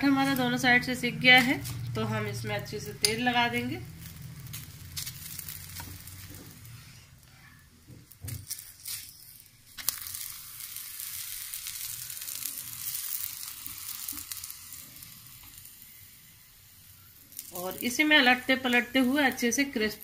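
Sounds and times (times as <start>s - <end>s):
oil sizzling on a hot pan: 0.0s - 20.0s.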